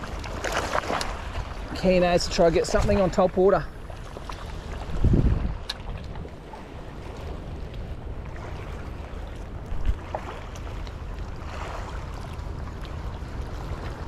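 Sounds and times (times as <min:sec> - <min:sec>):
waves lapping against rocks: 0:00.0 - 0:14.0
wind buffeting microphone: 0:00.0 - 0:14.0.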